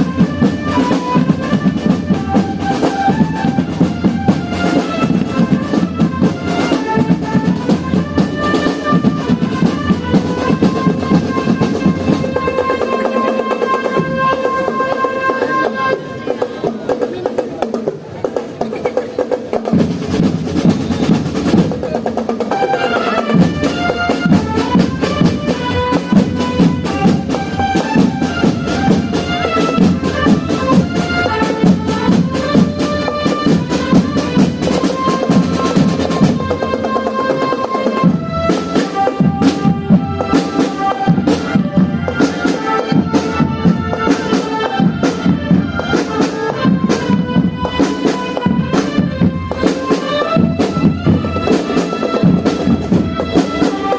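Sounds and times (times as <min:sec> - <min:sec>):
marching band melody: 0:00.0 - 0:53.9
snare and bass drums beating: 0:00.0 - 0:53.9.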